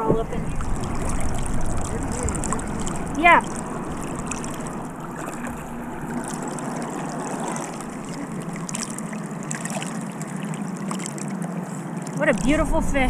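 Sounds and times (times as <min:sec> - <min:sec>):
water sloshing and trickling: 0:00.0 - 0:13.0.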